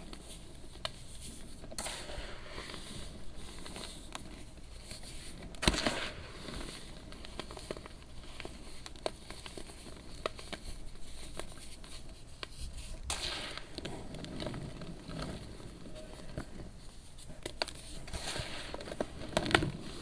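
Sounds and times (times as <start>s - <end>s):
baking soda crunching and crumbling: 0.0s - 20.0s.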